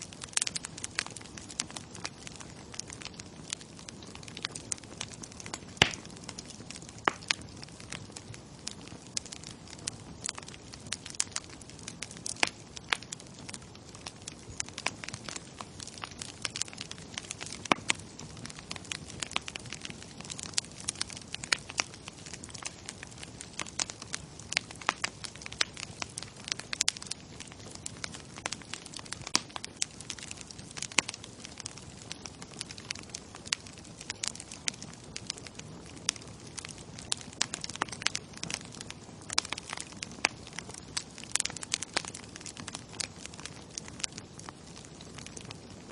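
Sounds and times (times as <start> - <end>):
bonfire crackling and popping: 0.0 - 45.9
low rush of burning: 0.0 - 45.9.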